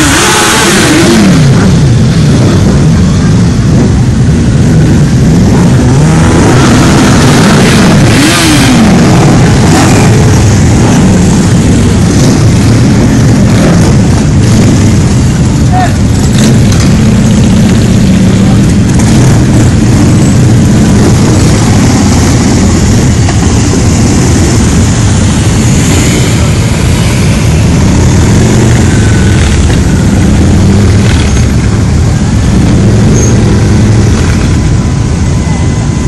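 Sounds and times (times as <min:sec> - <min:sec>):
motorcycle engines rumbling: 0:00.0 - 0:36.0.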